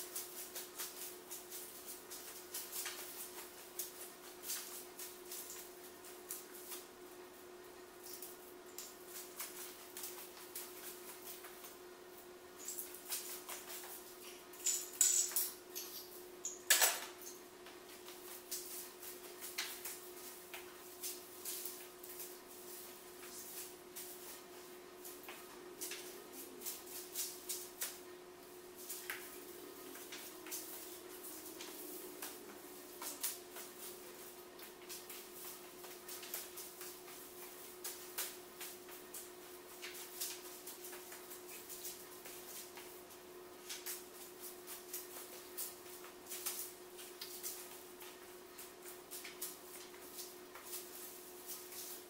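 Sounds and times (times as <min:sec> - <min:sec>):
room hum: 0:00.0 - 0:52.0
tape crinkling and crackling: 0:00.0 - 0:52.0.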